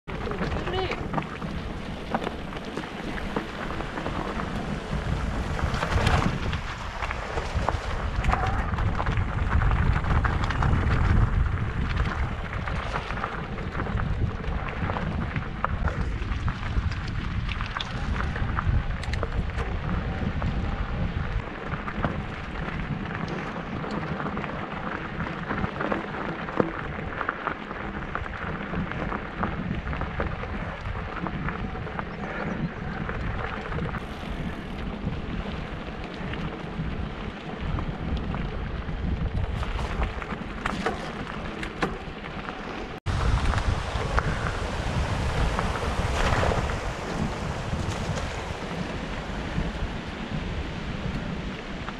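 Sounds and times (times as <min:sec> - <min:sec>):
wind rumbling on microphone: 0:00.0 - 0:51.9
bike tyres crunching over gravel: 0:00.1 - 0:51.9
stones clicking and bike rattling: 0:00.1 - 0:51.9.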